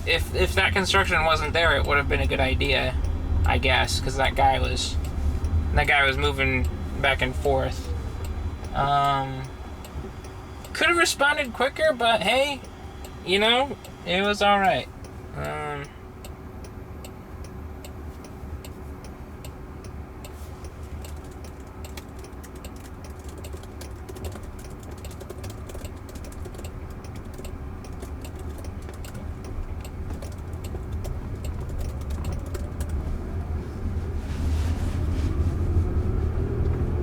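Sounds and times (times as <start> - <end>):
faint steady hum: 0.0 - 37.0
road and tyre rumble in car: 0.0 - 37.0
small irregular clicks: 0.2 - 33.6.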